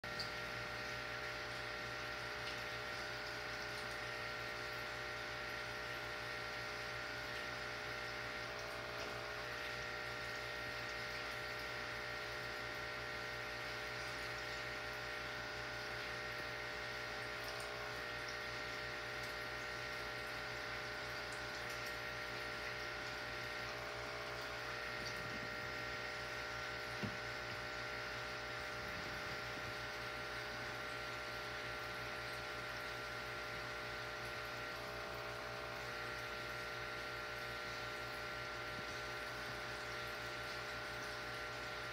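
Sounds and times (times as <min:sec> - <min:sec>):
background hum and hiss: 0:00.0 - 0:41.9.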